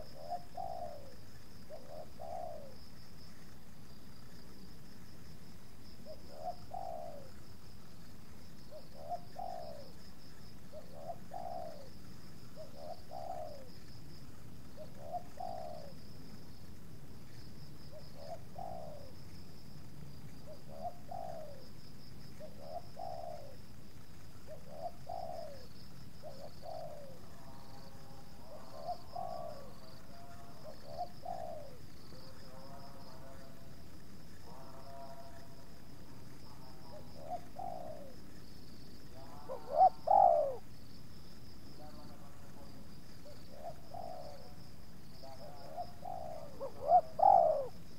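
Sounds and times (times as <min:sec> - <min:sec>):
dove cooing: 0:00.0 - 0:03.5, 0:06.0 - 0:07.6, 0:08.7 - 0:14.0, 0:14.6 - 0:16.4, 0:17.8 - 0:19.3, 0:20.3 - 0:23.8, 0:24.4 - 0:38.4, 0:39.0 - 0:40.7, 0:41.8 - 0:47.9.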